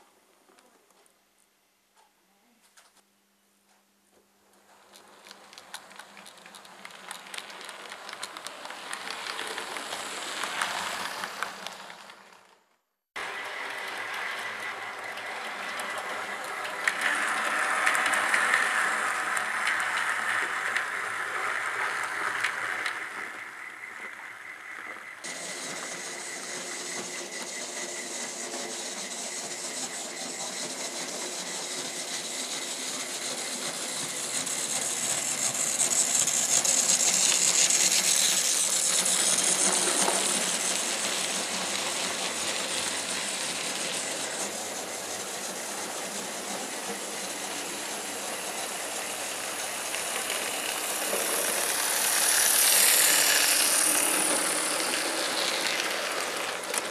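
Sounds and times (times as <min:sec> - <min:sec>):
model train mechanical hum: 0:04.5 - 0:56.9
wheels rattling on track: 0:04.9 - 0:12.5, 0:13.2 - 0:56.9
hiss: 0:05.2 - 0:12.2, 0:13.2 - 0:56.9.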